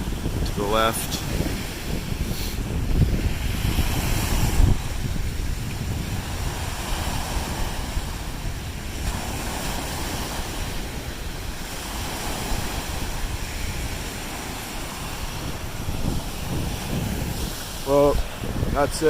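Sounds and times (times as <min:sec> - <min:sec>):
waves washing onto beach: 0:00.0 - 0:19.0
wind rumbling on microphone: 0:00.0 - 0:19.0.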